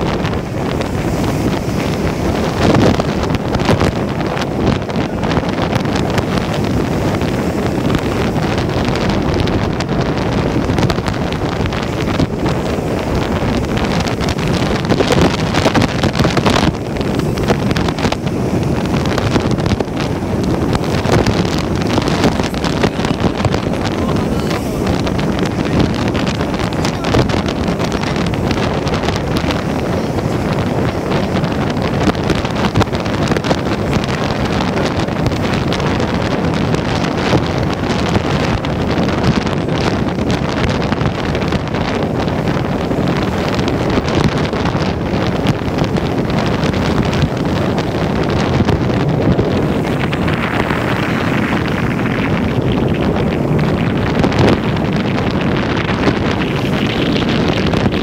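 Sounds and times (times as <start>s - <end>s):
train running over bridge: 0.0s - 58.0s
wind buffeting microphone: 0.0s - 58.0s.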